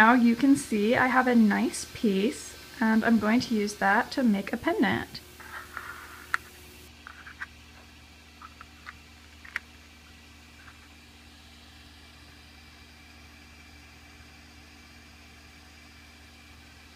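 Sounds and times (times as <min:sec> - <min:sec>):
low background hum: 0:00.0 - 0:16.9.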